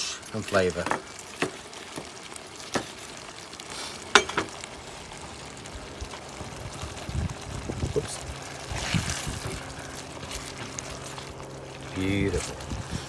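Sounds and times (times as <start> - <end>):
curry simmering with bubbling hiss: 0.0 - 13.0.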